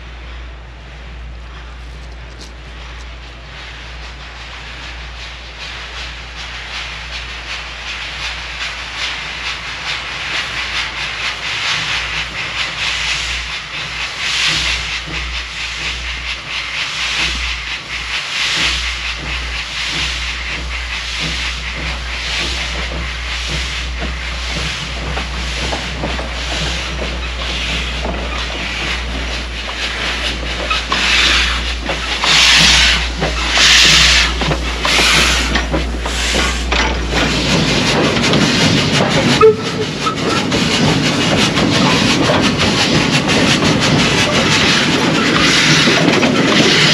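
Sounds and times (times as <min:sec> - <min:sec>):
steam locomotive chuffing: 0:00.0 - 0:46.9
steam hissing: 0:00.2 - 0:46.9.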